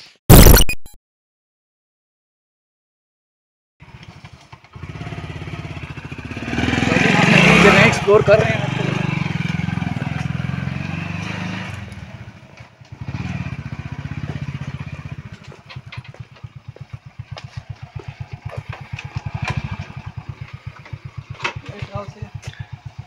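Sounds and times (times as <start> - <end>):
motorcycle engine chugging: 3.8 - 23.0.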